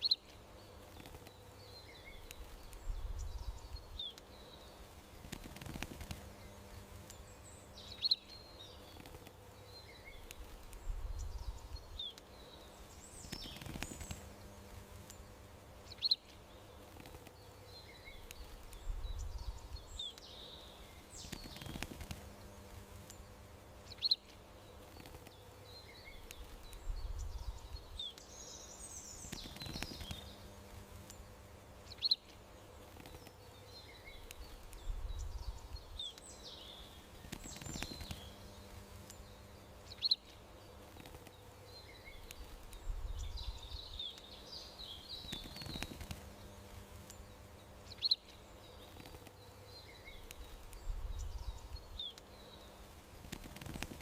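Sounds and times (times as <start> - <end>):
faint steady hum: 0.0 - 54.0
small birds chirping: 0.0 - 54.0.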